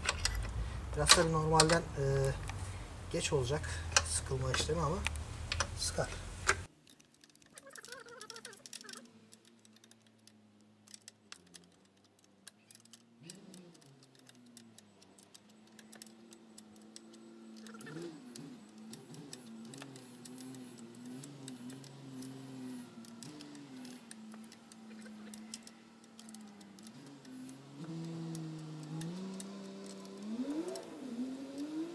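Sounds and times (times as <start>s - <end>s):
wrench clicking on bolts: 0.0s - 2.6s, 6.4s - 31.9s.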